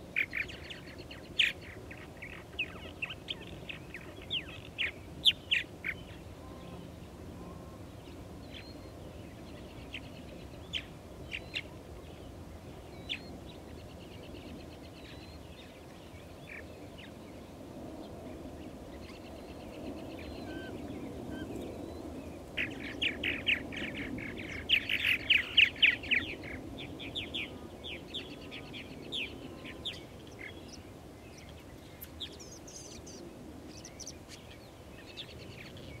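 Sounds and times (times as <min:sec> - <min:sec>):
birds chattering chirps: 0:00.0 - 0:36.0.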